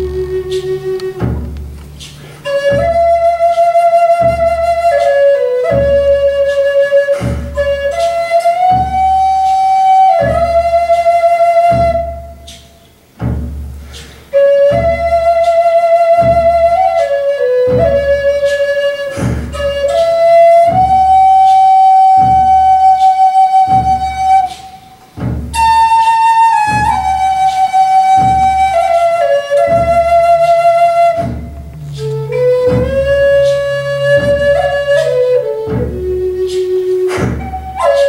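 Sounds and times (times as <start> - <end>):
slow low beat: 0.0 - 38.0
wooden flute melody: 0.0 - 38.0.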